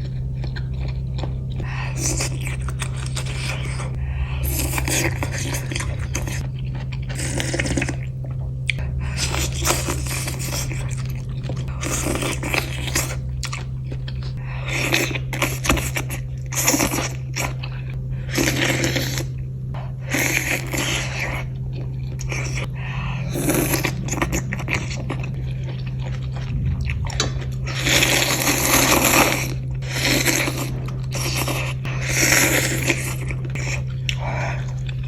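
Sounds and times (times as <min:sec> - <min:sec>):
chewing and crunching noodles: 0:00.0 - 0:35.0
steady low hum: 0:00.0 - 0:35.0.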